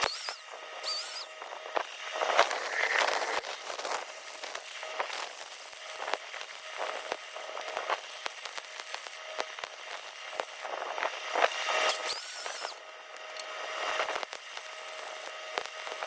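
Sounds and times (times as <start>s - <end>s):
welding arc crackling: 0.0s - 16.0s.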